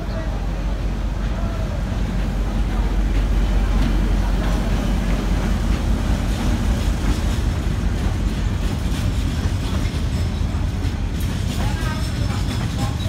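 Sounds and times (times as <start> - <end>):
train wheels rumbling on rails: 0.0 - 13.0
clacks over rail joints: 2.1 - 13.0.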